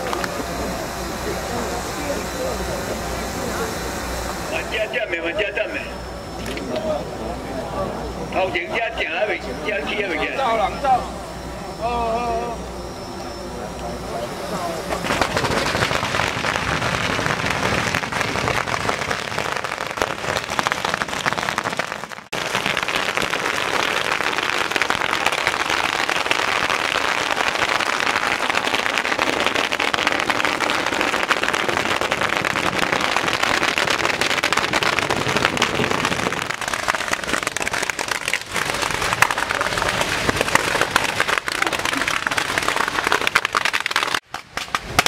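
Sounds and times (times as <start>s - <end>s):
firecrackers crackling: 0.0s - 7.0s, 8.1s - 12.5s, 14.1s - 45.0s.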